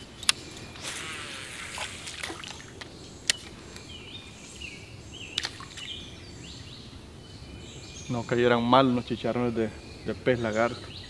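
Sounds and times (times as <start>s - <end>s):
faint outdoor background: 0.0s - 11.0s
small bird chirping: 0.0s - 11.0s.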